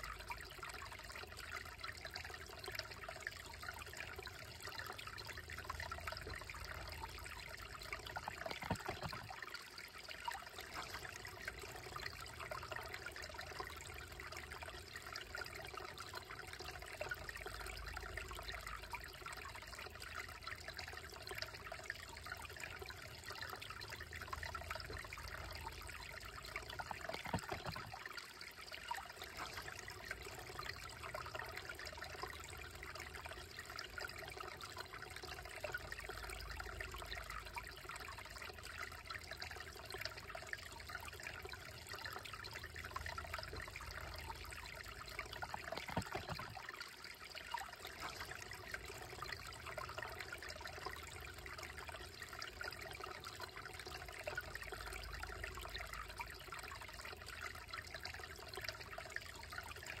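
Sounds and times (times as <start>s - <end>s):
creek trickling over stones: 0.0s - 60.0s.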